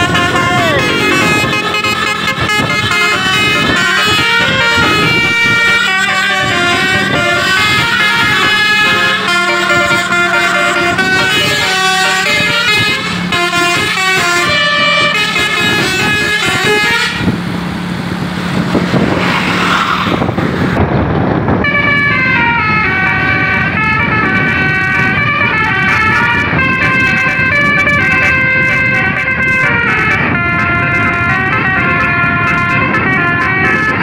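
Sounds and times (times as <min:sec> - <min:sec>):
musical bus horn playing a tune: 0:00.0 - 0:17.4, 0:21.6 - 0:34.0
bus engine: 0:00.0 - 0:34.0
rushing noise with low drone: 0:00.0 - 0:34.0.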